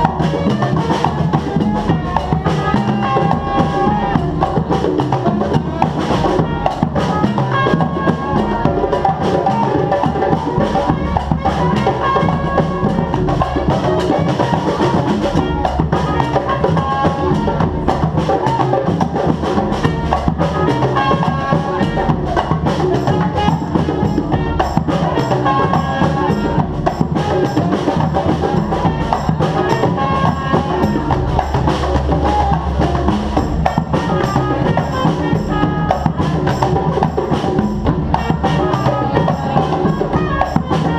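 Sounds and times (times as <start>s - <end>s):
drums and percussion beat: 0.0s - 40.9s
street band playing: 0.0s - 40.9s.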